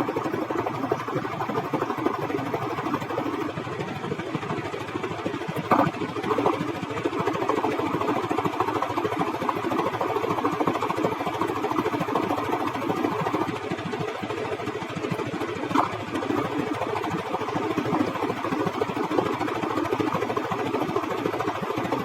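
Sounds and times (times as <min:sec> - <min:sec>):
vehicle engine running roughly: 0:00.0 - 0:22.0.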